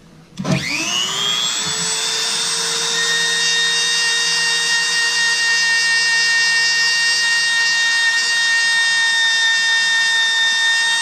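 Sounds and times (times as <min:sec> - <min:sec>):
rotary tool high-pitched whine: 0:00.5 - 0:11.0.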